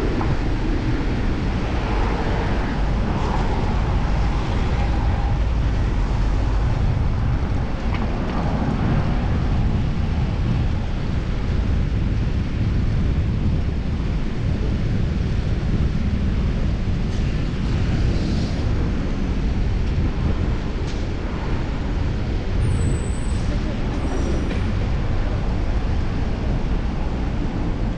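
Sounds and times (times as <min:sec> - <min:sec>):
low road noise: 0:00.0 - 0:27.9
wind rush on microphone: 0:00.0 - 0:27.9.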